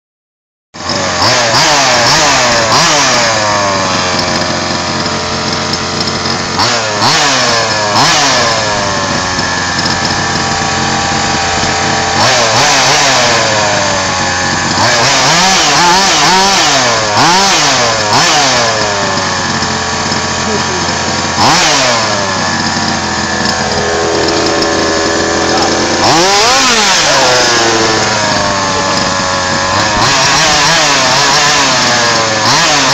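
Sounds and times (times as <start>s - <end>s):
rc car engine idling and revving: 0.8s - 32.9s.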